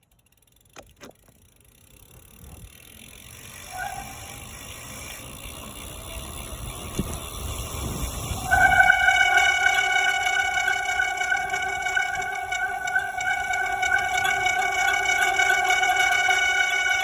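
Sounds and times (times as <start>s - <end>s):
bicycle clicks: 0.0s - 17.0s
bicycle wind and tyre rush: 0.3s - 17.0s
brake squeal: 3.3s - 17.0s.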